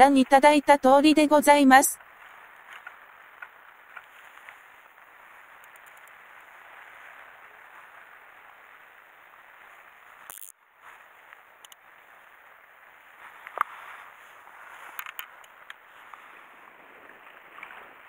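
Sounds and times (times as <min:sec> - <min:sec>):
wind: 0:00.0 - 0:18.0
sea: 0:02.0 - 0:18.0.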